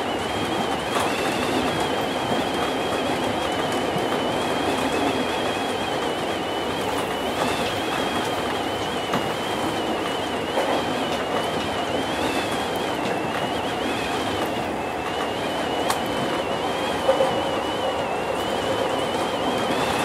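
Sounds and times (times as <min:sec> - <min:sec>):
train rolling rush: 0:00.0 - 0:20.0.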